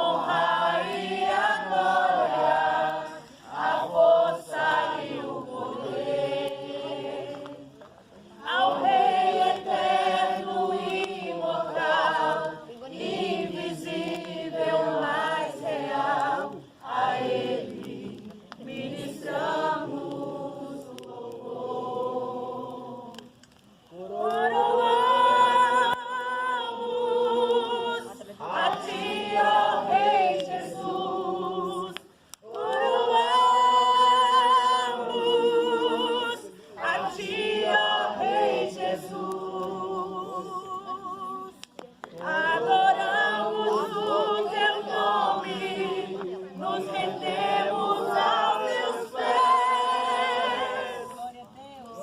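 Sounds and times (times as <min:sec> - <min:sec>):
congregation singing a cappella: 0:00.0 - 0:52.0.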